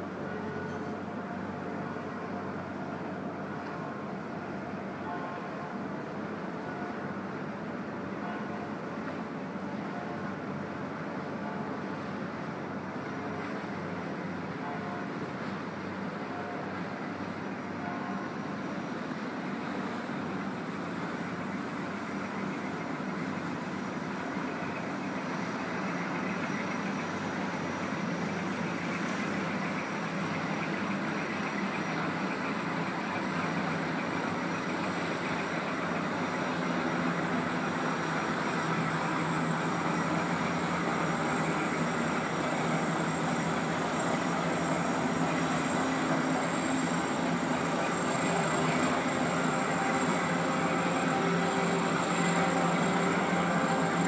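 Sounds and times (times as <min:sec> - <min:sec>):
ship rumble and hiss: 0:00.0 - 0:54.0.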